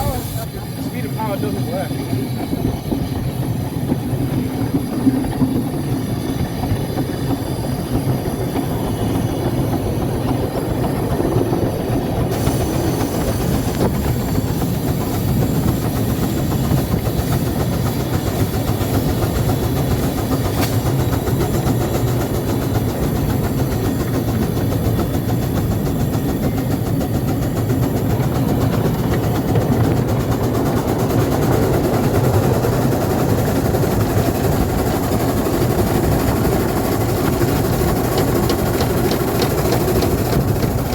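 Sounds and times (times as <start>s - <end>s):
locomotive running: 0.0s - 40.9s.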